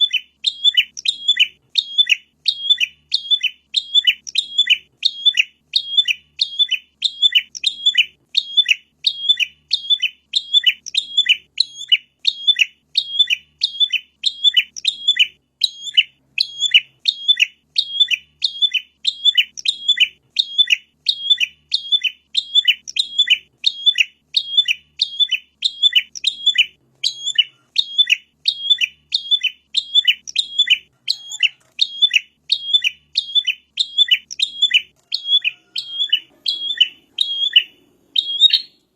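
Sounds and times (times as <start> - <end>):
bird calling sharp high chirp: 0.0 - 38.9.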